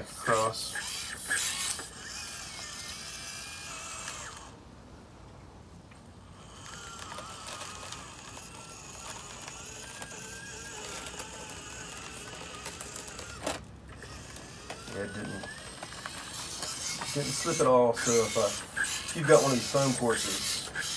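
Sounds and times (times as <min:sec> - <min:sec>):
small electric motor whining: 0:00.0 - 0:04.6, 0:06.2 - 0:20.9.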